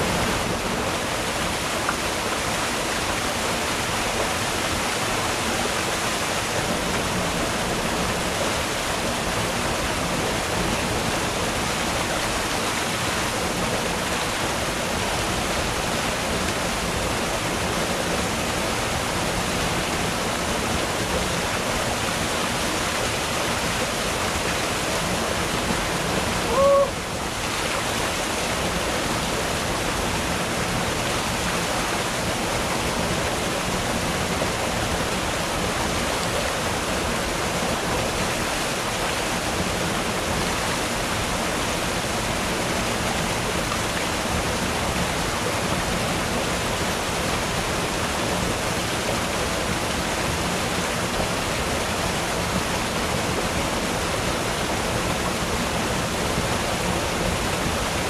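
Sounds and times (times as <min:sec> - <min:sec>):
waterfall rushing over boulders: 0:00.0 - 0:58.0.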